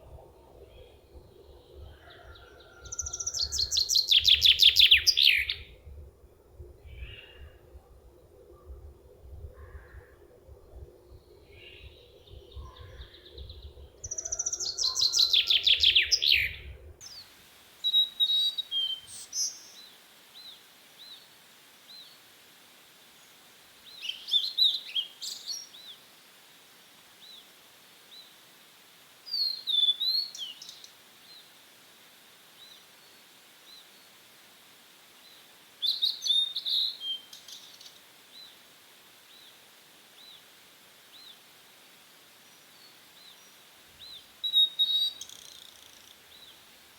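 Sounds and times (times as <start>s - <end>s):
songbirds singing: 0.0s - 22.4s, 23.0s - 26.5s, 29.2s - 34.3s, 35.1s - 46.9s.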